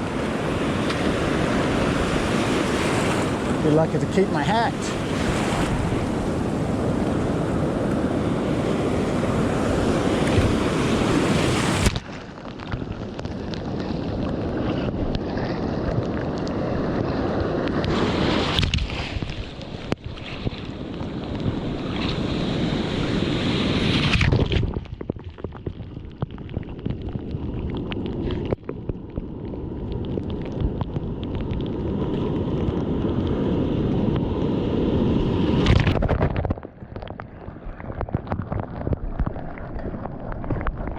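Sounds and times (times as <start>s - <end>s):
surf breaking on shore: 0.0s - 25.4s, 29.9s - 40.9s
wind buffeting microphone: 0.0s - 40.9s.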